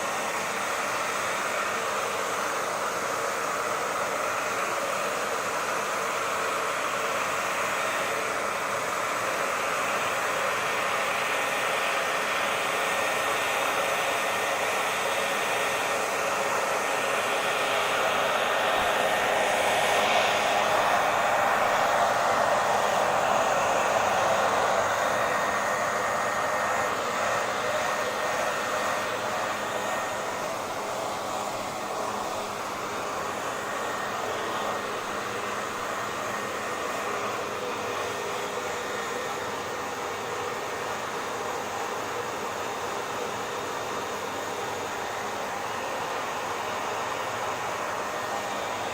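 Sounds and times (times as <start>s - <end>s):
hair dryer running: 0.0s - 48.9s.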